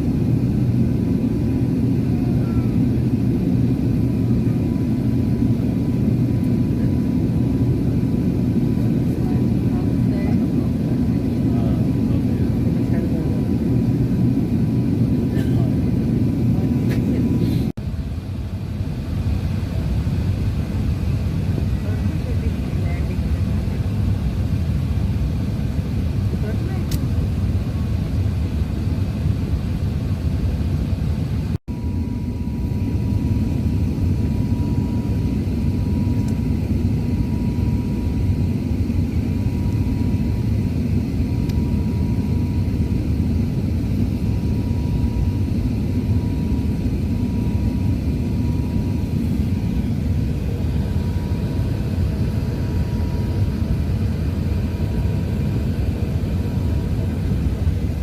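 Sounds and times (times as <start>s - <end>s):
engine and airflow rumble: 0.0s - 58.0s.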